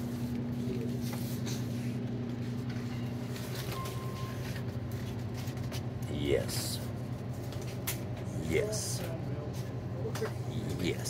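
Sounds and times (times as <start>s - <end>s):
electrical equipment hum: 0.0s - 11.0s.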